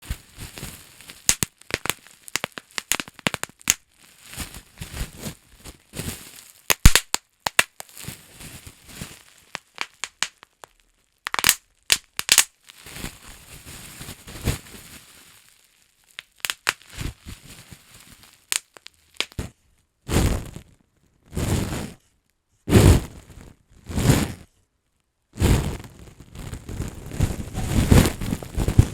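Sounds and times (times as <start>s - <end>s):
bubble wrap crinkling and popping: 0.0s - 19.5s, 20.1s - 20.8s, 25.4s - 28.9s.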